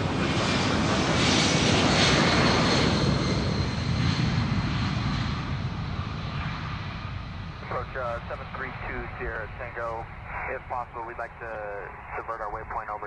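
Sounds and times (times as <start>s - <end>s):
airplane engine passing: 0.0s - 13.0s.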